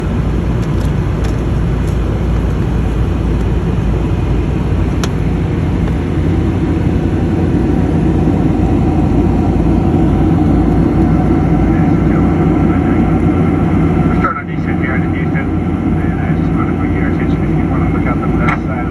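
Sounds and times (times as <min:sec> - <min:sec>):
jet airliner cabin noise: 0:00.0 - 0:18.9.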